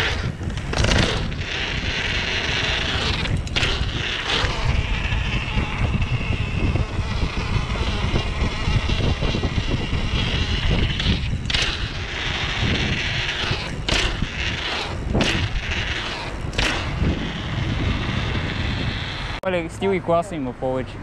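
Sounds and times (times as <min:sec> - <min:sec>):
bike tyres rumbling over stone: 0:00.0 - 0:19.4.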